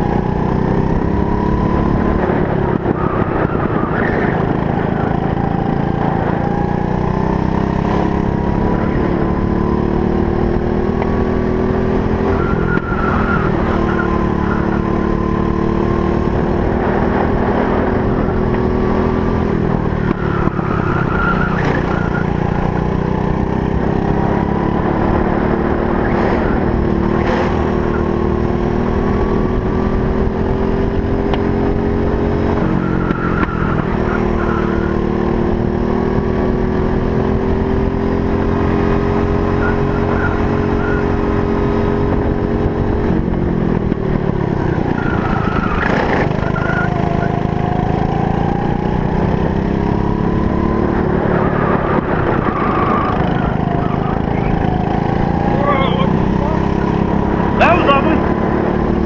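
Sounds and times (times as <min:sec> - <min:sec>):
kart engine at racing speed: 0:00.0 - 0:59.0.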